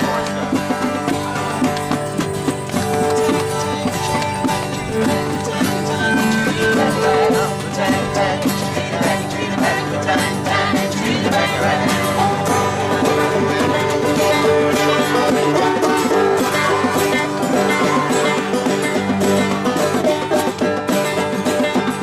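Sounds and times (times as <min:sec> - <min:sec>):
acoustic band playing: 0:00.0 - 0:22.0
banjo strumming: 0:00.0 - 0:22.0
guitars strumming: 0:00.0 - 0:22.0.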